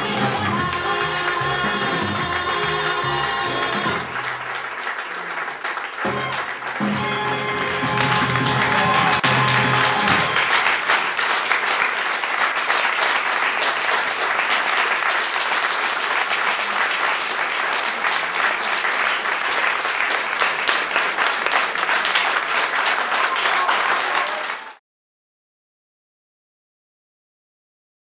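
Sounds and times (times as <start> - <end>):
audience applauding: 0.0 - 24.8.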